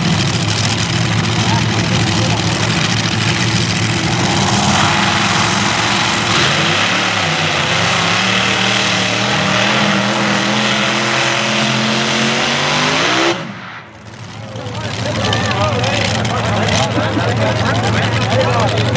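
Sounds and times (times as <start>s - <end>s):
pulling tractor engines blaring: 0.0s - 18.9s.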